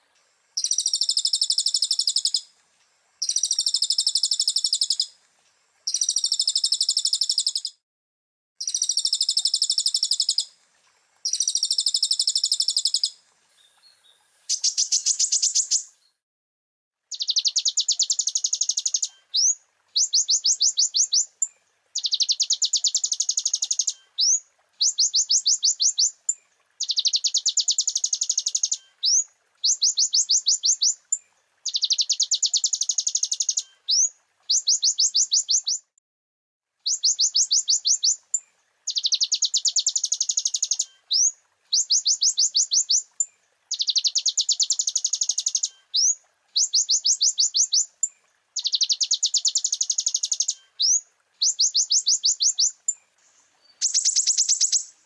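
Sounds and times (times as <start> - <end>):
bird singing fast trills: 0.6 - 2.5, 3.2 - 5.1, 5.9 - 7.8, 8.6 - 10.5, 11.3 - 13.2, 13.9 - 15.9, 17.1 - 26.1, 26.8 - 35.9, 36.9 - 38.2, 38.9 - 43.0, 43.7 - 53.0, 53.6 - 55.0.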